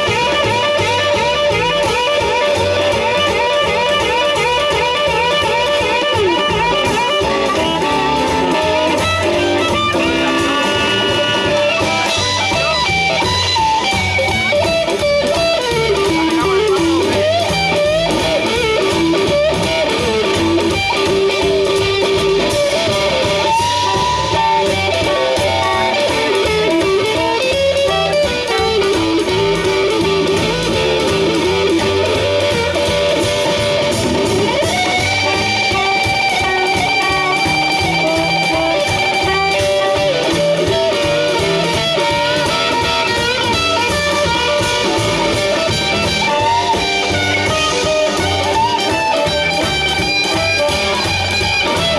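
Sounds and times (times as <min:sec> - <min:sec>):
drums: 0:00.0 - 0:51.9
electric guitar lead: 0:00.0 - 0:51.9
harmonica: 0:00.0 - 0:51.9
upright bass: 0:00.0 - 0:51.9.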